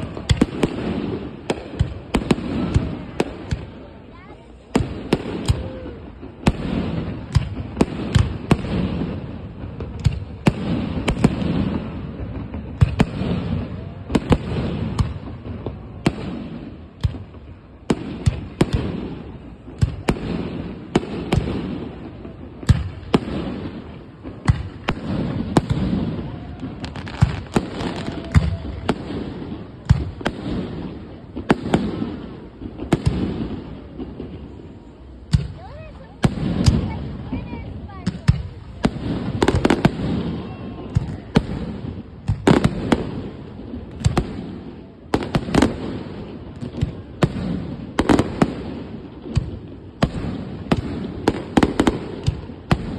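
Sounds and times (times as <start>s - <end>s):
fireworks bangs: 0.0s - 52.9s.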